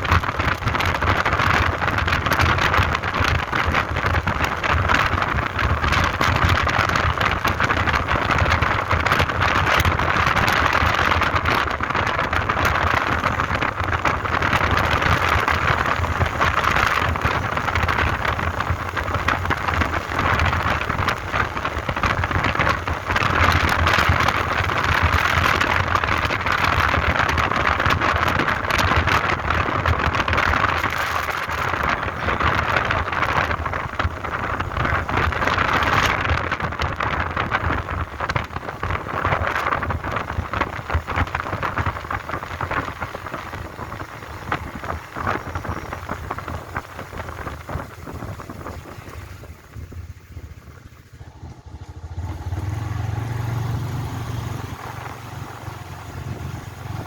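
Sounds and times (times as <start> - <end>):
motorbike engine low rumble: 0.0 - 57.0
wind and road noise: 0.0 - 57.0.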